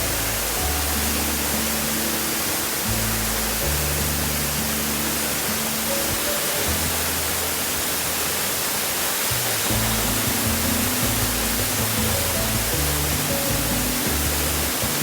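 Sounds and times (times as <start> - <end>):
slow music with low held notes: 0.0 - 15.0
waterfall rushing: 0.0 - 15.0.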